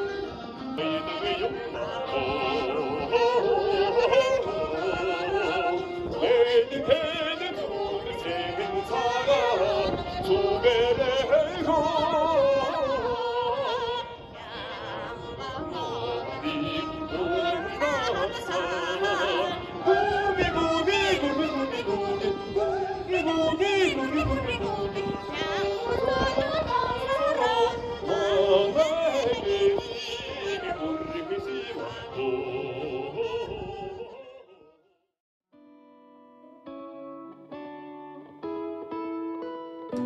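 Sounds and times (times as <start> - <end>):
person singing with wavering voice: 0.0 - 34.7.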